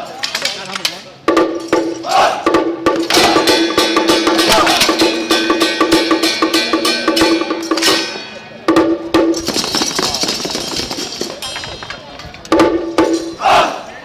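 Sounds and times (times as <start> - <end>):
fast drum strikes: 1.2 - 13.5
cymbals crashing: 1.4 - 11.8, 12.6 - 13.5.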